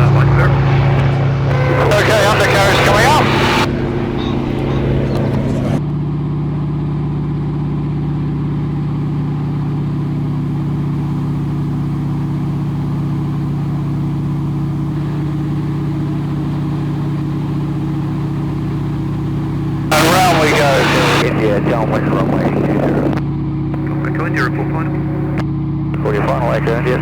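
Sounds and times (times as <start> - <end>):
radial aircraft engine drone: 0.0 - 27.0.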